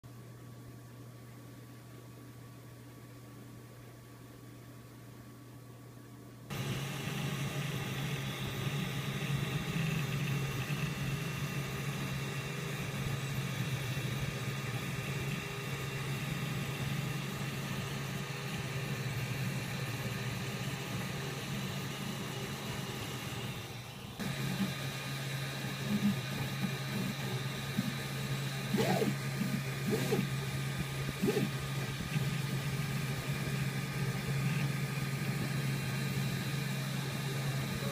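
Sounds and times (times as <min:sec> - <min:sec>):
faint whining tones: 0:01.0 - 0:37.9.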